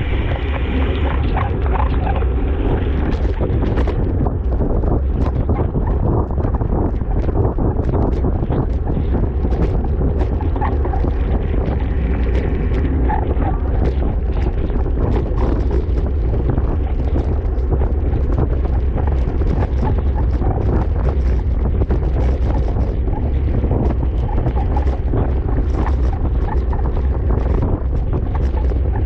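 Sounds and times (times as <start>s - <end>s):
rattles and clicks: 0.0s - 29.0s
wind buffeting a microphone: 0.0s - 29.0s.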